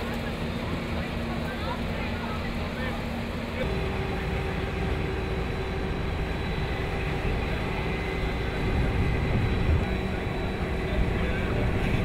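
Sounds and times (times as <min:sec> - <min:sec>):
diesel engines and pumps running: 0:00.0 - 0:12.0.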